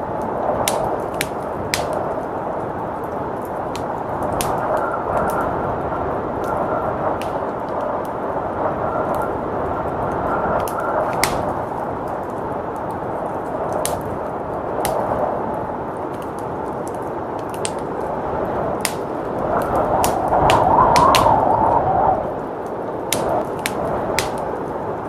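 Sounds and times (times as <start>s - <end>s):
blizzard wind rushing: 0.0s - 25.0s
wood fire crackling and popping: 0.0s - 25.0s.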